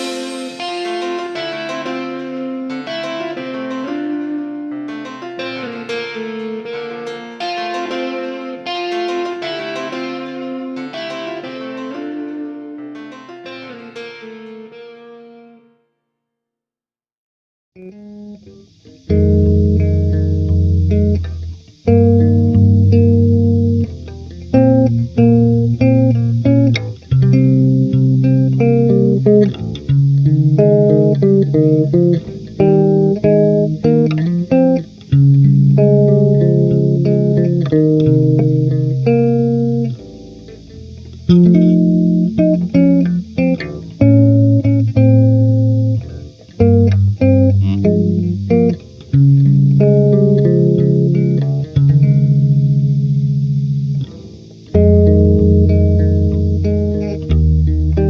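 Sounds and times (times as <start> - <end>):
electric bass guitar notes: 0.0 - 6.3, 17.8 - 58.0.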